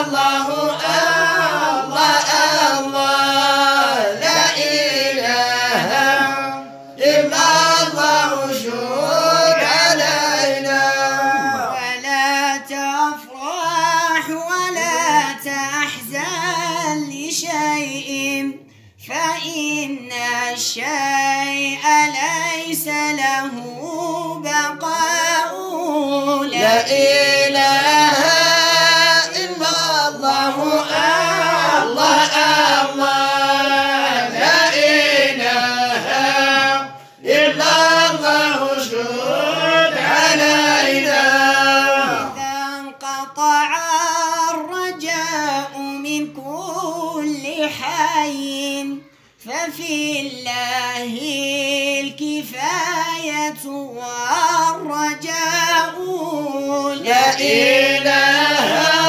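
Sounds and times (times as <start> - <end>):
person singing devotional song: 0.0 - 59.0.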